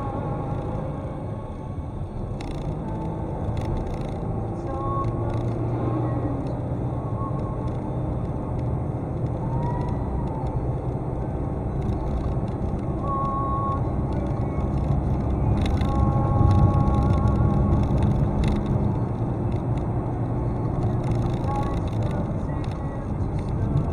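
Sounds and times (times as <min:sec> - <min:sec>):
vehicle driving on road: 0:00.0 - 0:23.9.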